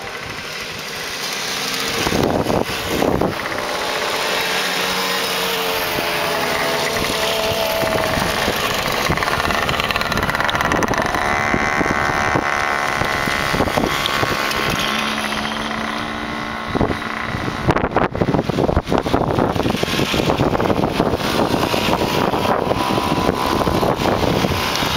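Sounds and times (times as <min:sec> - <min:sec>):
mopeds riding past: 0:00.0 - 0:24.9
wind buffeting microphone: 0:01.8 - 0:24.9.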